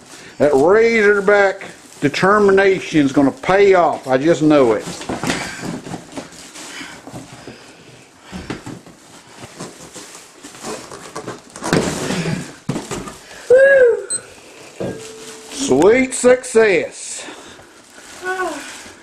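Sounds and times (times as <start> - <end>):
cardboard and plastic rustling: 0.0 - 13.4, 14.6 - 19.0.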